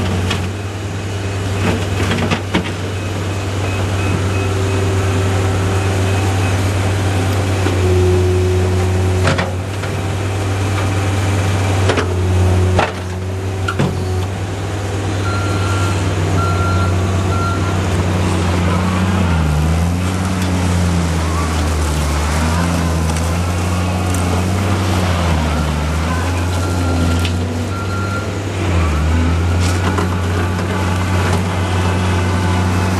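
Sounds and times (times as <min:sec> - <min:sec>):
diesel engine running under load: 0:00.0 - 0:32.9.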